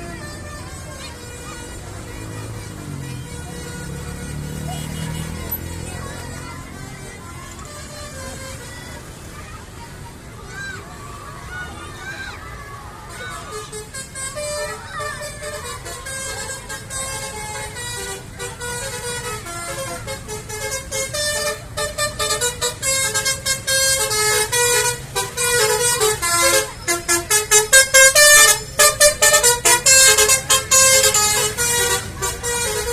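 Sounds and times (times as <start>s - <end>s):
bus horn playing melody: 0.0s - 9.2s, 13.2s - 32.9s
low bus engine: 0.0s - 32.9s.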